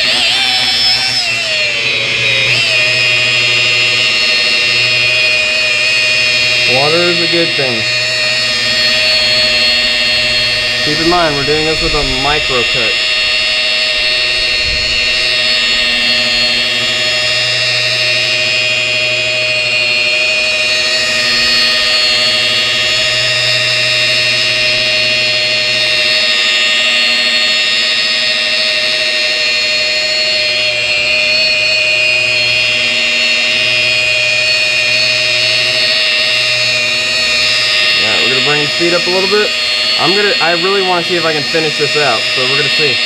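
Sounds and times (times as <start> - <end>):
low hum of polishing pad: 0.0 - 43.0
polisher motor whine: 0.0 - 43.0.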